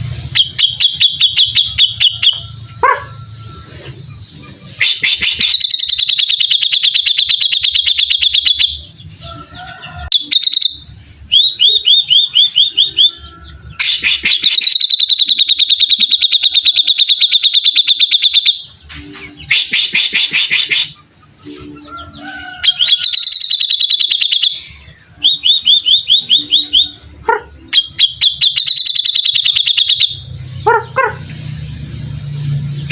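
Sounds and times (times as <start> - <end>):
bird singing rapid high trills: 0.1 - 2.6, 4.1 - 9.1, 10.1 - 30.8.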